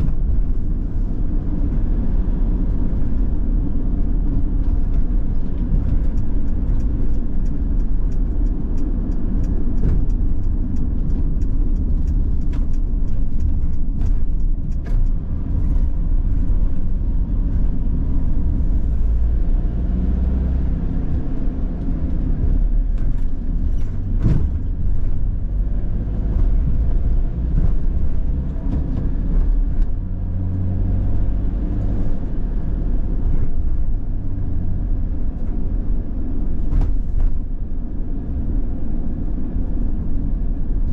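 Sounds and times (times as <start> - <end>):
van engine and tyre rumble: 0.0 - 40.9.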